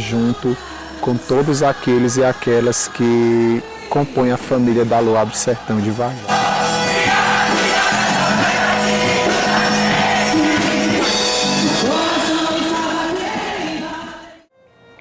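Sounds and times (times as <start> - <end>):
singing over a steady beat: 0.0 - 14.5.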